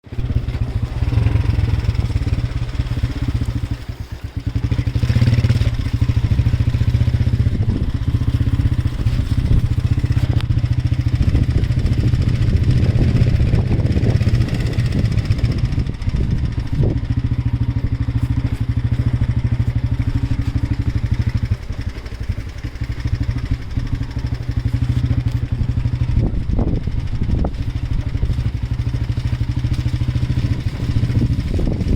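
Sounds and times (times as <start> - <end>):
vehicle engine droning: 0.0 - 31.9.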